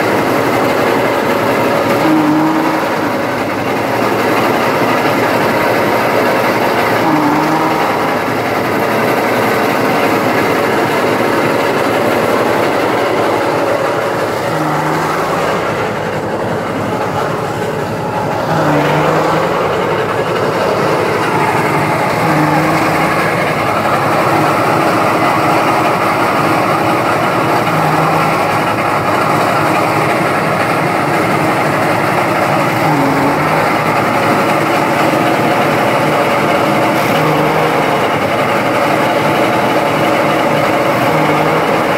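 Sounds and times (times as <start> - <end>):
low hum: 0.0 - 41.9
thresher mechanical clatter: 0.0 - 41.9.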